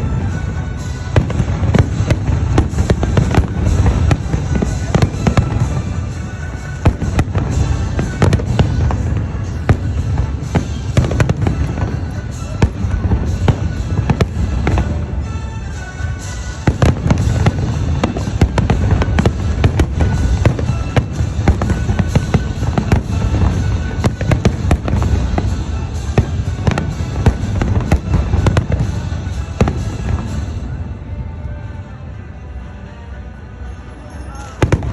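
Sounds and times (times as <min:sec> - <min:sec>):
fireworks bangs and crackles: 0:00.0 - 0:31.7, 0:34.4 - 0:34.9.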